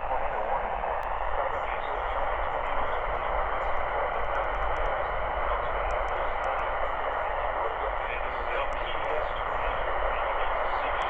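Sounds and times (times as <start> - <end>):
low hum: 0.0 - 11.0
radio static hiss: 0.0 - 11.0.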